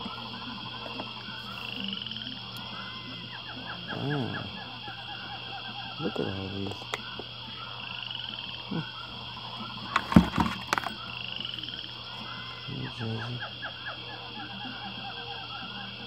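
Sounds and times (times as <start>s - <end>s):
frogs croaking: 0.0s - 16.0s.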